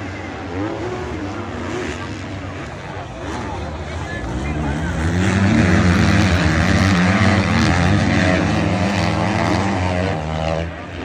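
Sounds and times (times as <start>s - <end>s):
motocross bikes revving past: 0.0s - 11.0s.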